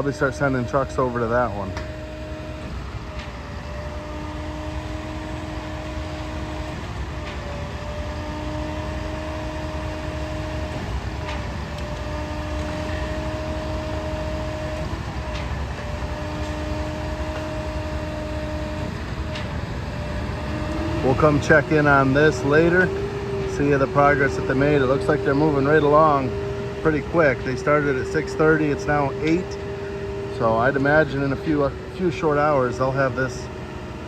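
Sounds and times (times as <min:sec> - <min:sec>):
diesel pump running: 0:00.0 - 0:34.0.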